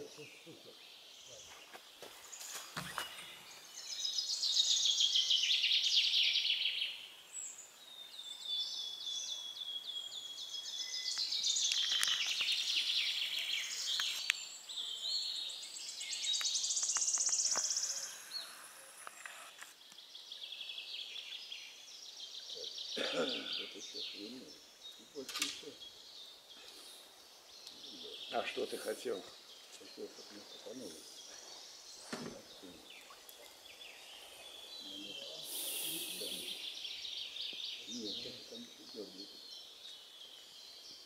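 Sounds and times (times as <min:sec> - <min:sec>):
small songbirds singing: 0:00.0 - 0:41.0.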